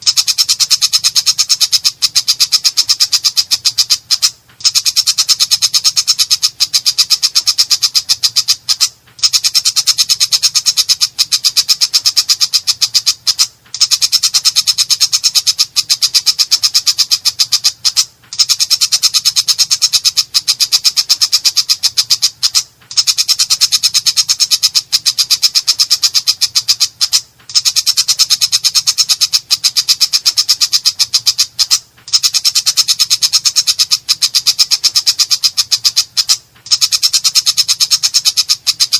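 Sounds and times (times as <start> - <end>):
bird harsh chattering calls: 0.0 - 38.9.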